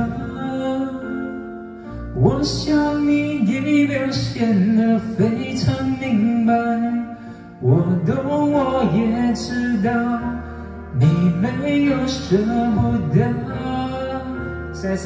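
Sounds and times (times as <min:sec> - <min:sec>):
person singing into a microphone: 0:00.0 - 0:15.0
pop ballad backing music: 0:00.0 - 0:15.0.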